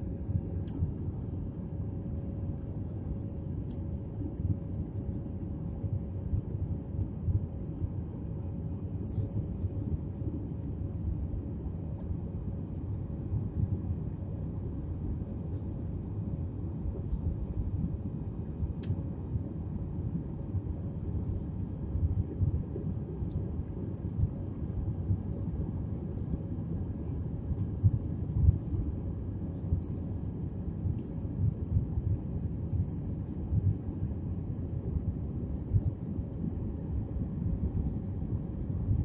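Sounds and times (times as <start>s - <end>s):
jet engine rumble in cabin: 0.0s - 39.0s.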